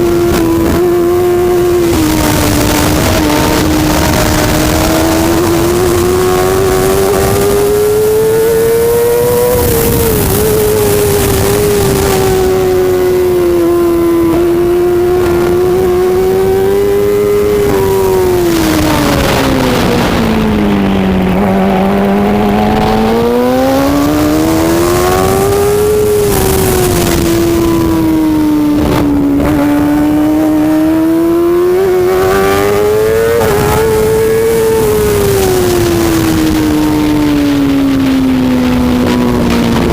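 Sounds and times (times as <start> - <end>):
superbike engine running hard: 0.0 - 39.9.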